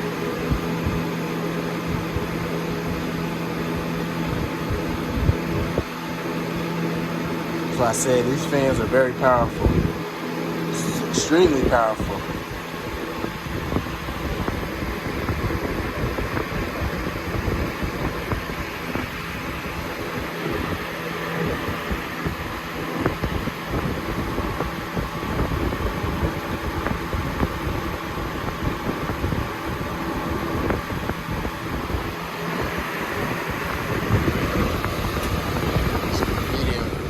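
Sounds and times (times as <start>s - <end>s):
air buffeting microphone: 0.0s - 37.0s
box fan whistling air rush: 0.0s - 37.0s.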